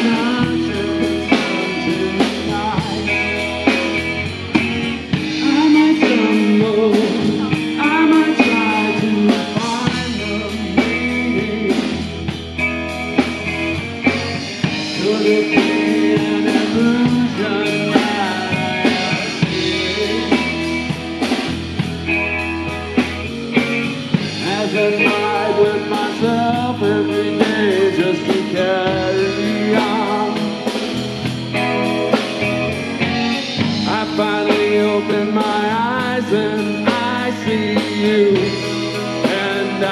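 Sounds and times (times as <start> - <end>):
bass: 0.0 - 39.9
drum kit: 0.0 - 39.9
electric guitar: 0.0 - 39.9.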